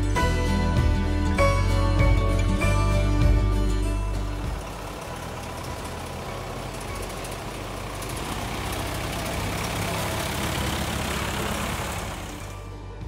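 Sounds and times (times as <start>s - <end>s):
vehicle engine and tyre noise: 2.4s - 13.0s.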